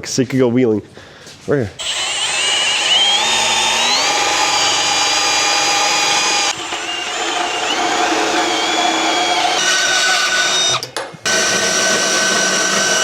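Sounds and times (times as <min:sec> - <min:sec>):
power drill motor whine: 0:01.8 - 0:13.0.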